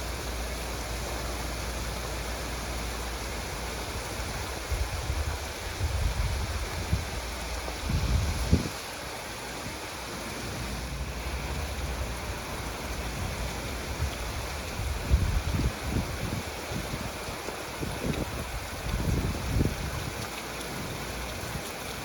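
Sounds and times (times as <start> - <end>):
heavy rain falling: 0.0 - 22.0
wind buffeting microphone: 3.3 - 22.0.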